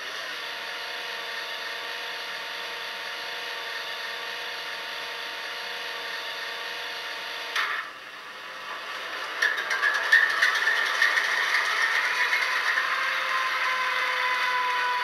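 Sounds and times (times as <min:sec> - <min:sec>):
model locomotive running sound: 0:00.0 - 0:15.0.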